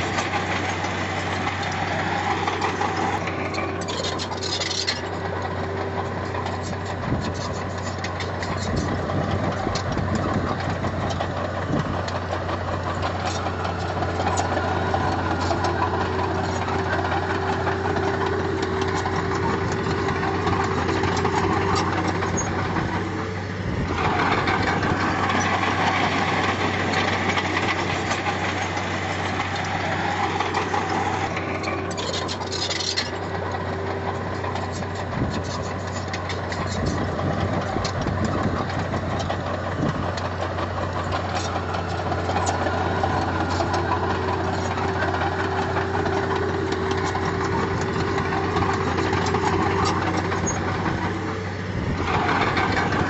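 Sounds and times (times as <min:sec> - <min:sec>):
heavy machinery diesel engine running: 0:00.0 - 0:53.0.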